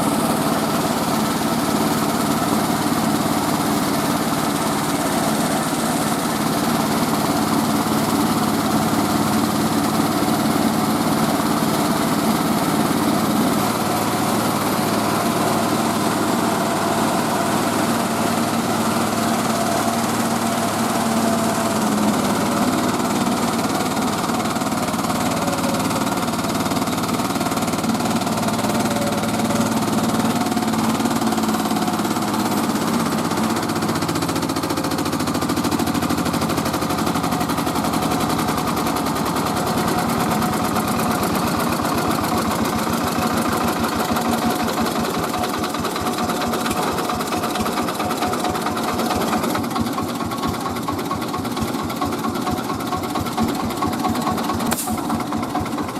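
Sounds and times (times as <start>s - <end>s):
rice milling machine engine knocking: 0.0s - 55.9s.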